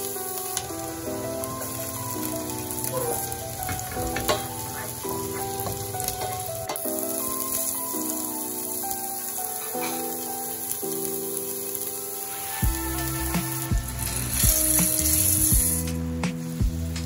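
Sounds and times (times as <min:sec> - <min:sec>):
onion and garlic sizzling in pan: 0:00.0 - 0:17.0
soft background music: 0:00.0 - 0:17.0.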